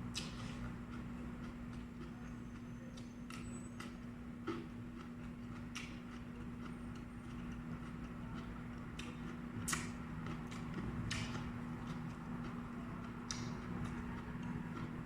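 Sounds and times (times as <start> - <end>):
steady low hum: 0.0 - 15.0
crunching raw vegetables: 0.1 - 15.0.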